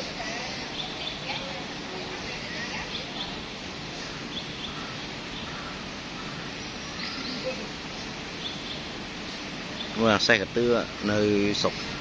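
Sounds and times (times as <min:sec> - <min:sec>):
distant noise hiss: 0:00.0 - 0:12.0
faint bird chirps: 0:00.4 - 0:10.0.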